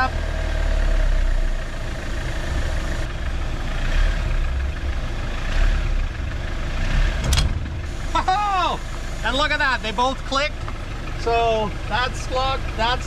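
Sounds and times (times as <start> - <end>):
motorhome engine running: 0.0 - 13.0.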